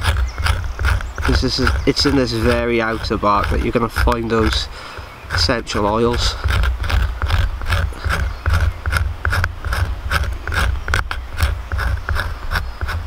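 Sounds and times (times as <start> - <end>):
knife scraping bark: 0.0 - 13.0.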